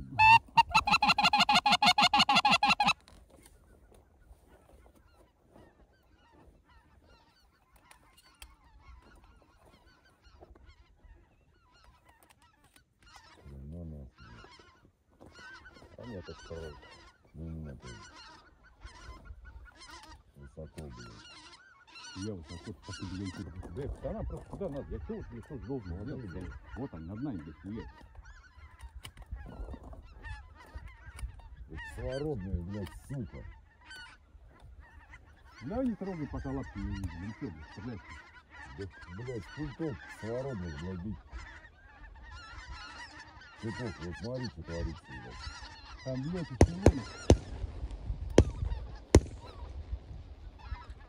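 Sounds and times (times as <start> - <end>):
goose honking: 0.0 - 51.0.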